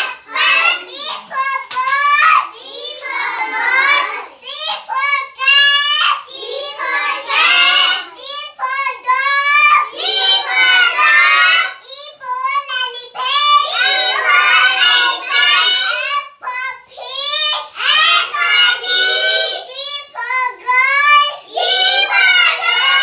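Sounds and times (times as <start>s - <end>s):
child chanting in sing-song voice: 0.0s - 23.0s.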